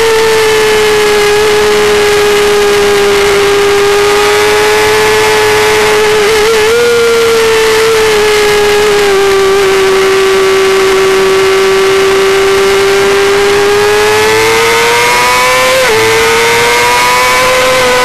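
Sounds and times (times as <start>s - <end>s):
motorcycle engine at high revs: 0.0s - 18.0s.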